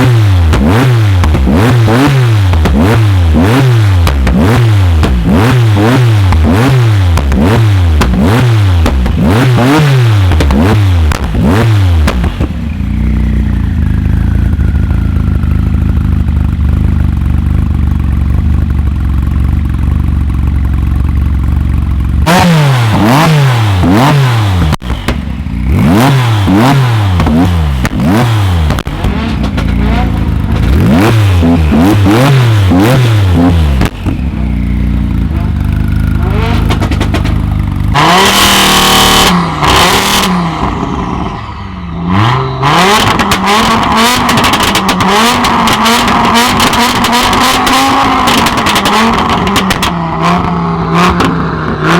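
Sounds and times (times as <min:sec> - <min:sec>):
car engine revving: 0:00.0 - 0:16.8, 0:21.2 - 0:51.9
engine whine: 0:00.0 - 0:51.9.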